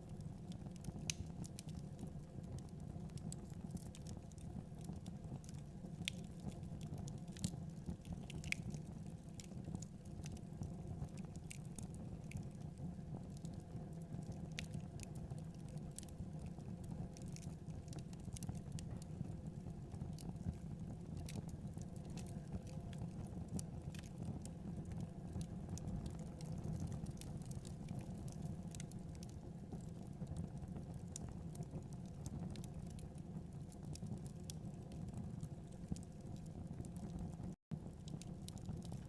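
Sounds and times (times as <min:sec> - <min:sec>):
fire crackling in a fireplace: 0:00.0 - 0:39.0.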